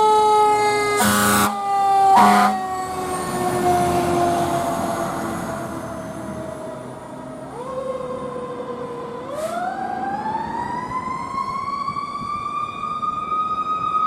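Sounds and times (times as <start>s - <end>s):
fire engine siren: 0.0s - 14.0s.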